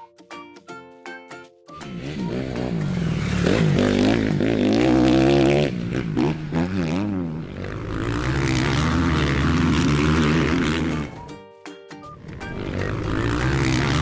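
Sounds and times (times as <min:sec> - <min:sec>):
dirt bike engine revving: 0:01.8 - 0:11.3, 0:12.2 - 0:14.0.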